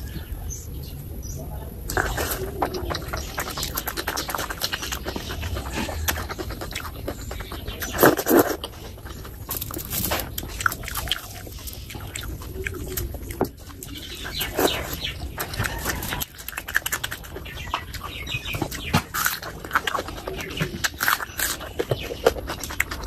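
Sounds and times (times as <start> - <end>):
wet chewing and lip-smacking: 1.9 - 23.0.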